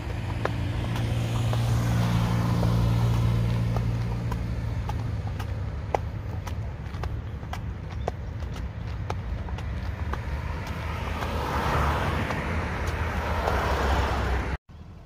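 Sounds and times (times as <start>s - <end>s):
horse hooves clopping on asphalt: 0.0s - 14.6s
road traffic rumble: 0.0s - 15.0s.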